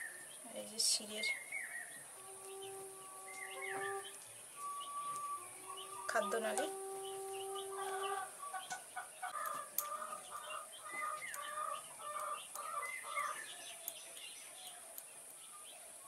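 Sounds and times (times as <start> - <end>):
chickens clucking: 1.9 - 15.0.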